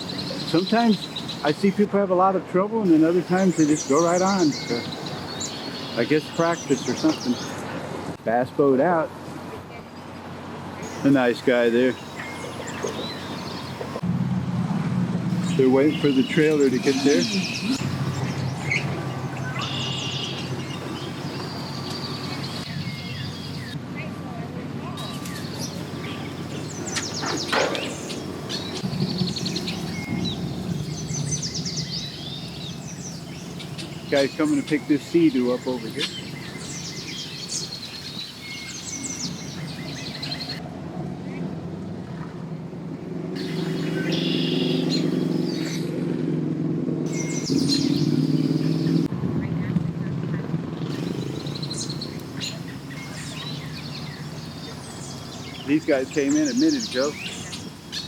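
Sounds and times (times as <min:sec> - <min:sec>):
birds chirping: 0:00.0 - 0:01.9, 0:02.8 - 0:07.9, 0:10.7 - 0:14.0, 0:15.3 - 0:24.1, 0:24.8 - 0:40.6, 0:43.4 - 0:46.1, 0:47.1 - 0:49.7, 0:50.3 - 0:58.0.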